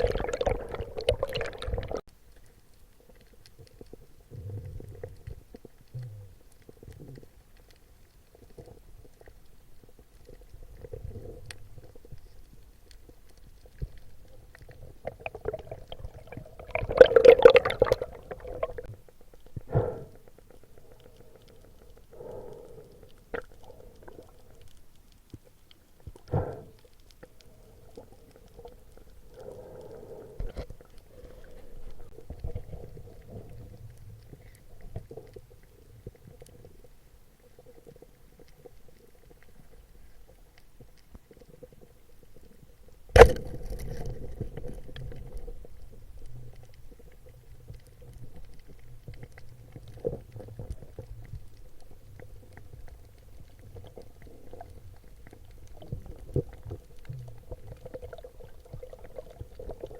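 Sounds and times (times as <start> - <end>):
faint steady hum: 0.0 - 59.9
soft crackling: 0.0 - 59.9
underwater low rumble: 0.0 - 59.9.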